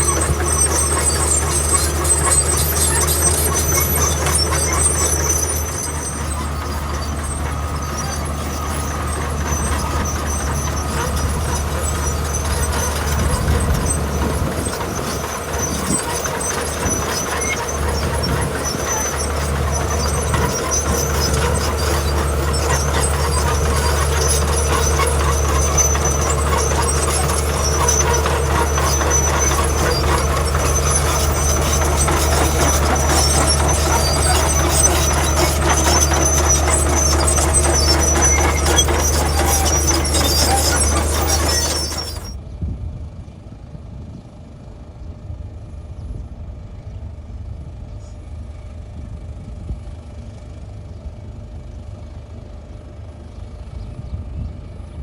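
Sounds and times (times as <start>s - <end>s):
construction machinery engine drone: 0.0s - 55.0s.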